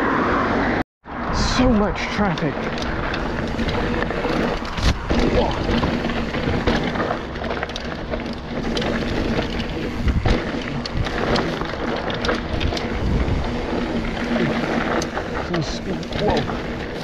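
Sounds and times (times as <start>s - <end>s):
bike clicks and rattles: 1.4s - 17.0s
tyres rushing on gravel: 1.4s - 17.0s.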